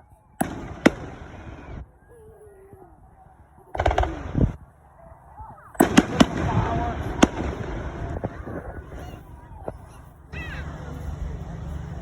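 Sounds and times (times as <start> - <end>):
fireworks bangs and crackle: 0.1 - 12.0.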